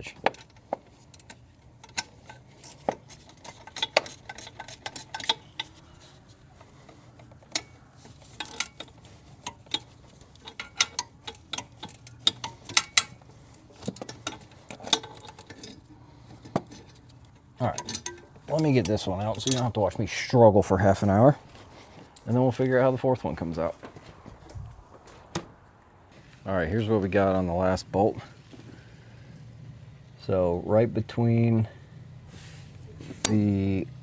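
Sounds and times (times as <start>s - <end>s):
metal tools clinking: 0.0s - 25.4s, 31.4s - 34.0s.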